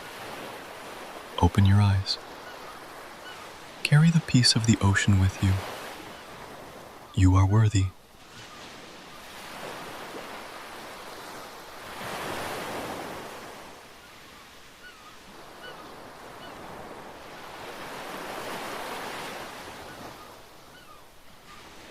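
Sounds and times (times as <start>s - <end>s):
ocean waves washing onto beach: 0.0s - 21.9s.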